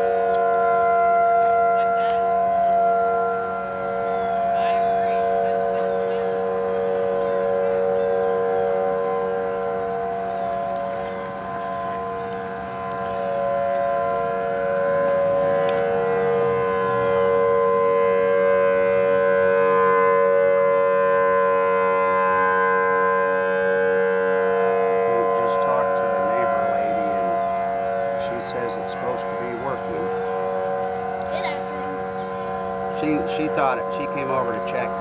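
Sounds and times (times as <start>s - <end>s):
outdoor warning sirens wailing: 0.0s - 35.0s.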